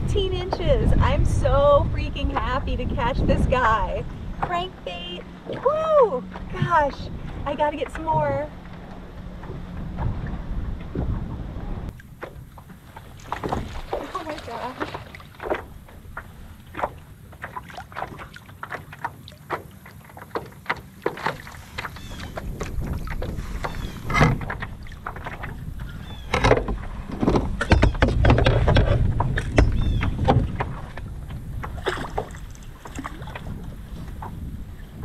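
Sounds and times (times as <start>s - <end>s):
water slapping against kayak hull: 0.0s - 35.0s
wind rumbling on microphone: 0.0s - 35.0s.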